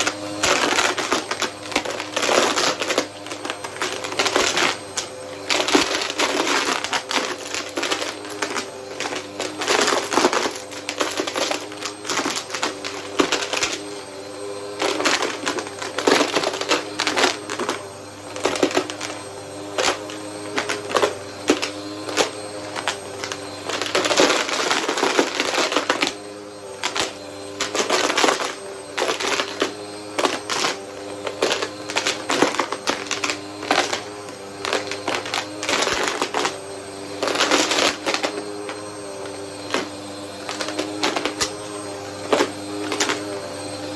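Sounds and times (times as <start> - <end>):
vacuum cleaner humming: 0.0 - 43.9.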